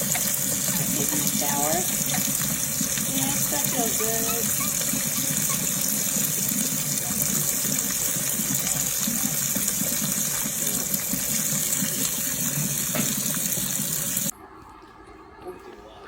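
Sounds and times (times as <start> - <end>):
water running from tap: 0.0 - 14.3.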